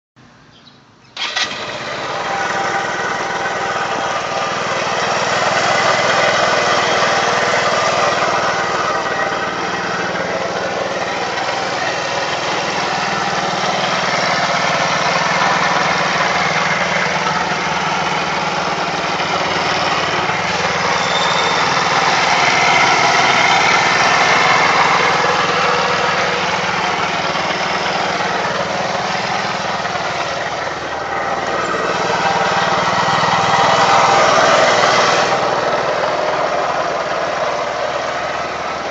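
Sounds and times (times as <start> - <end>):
small engine starting and running: 1.2 - 38.9.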